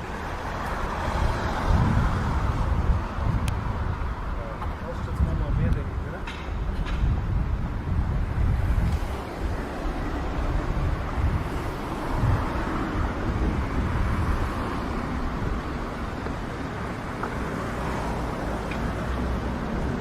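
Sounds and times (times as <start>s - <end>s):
road traffic rumble: 0.0s - 20.0s
wind buffeting microphone: 0.0s - 20.0s.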